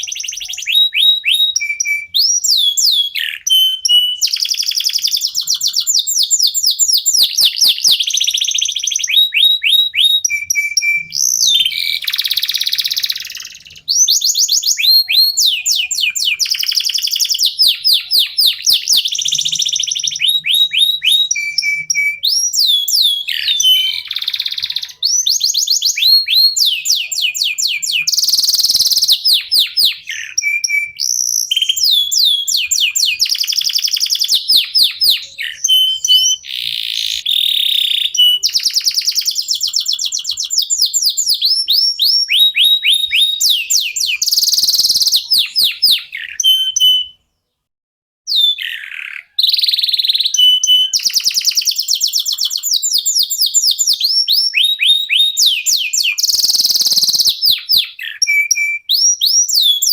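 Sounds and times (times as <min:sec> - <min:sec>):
canaries singing trills: 0:00.0 - 0:47.7, 0:48.3 - 0:59.9.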